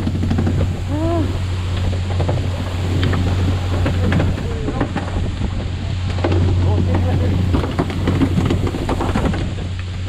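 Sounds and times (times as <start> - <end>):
boat engine humming: 0.0 - 10.0
water spray splashing: 0.0 - 10.0
wind on microphone: 0.0 - 10.0.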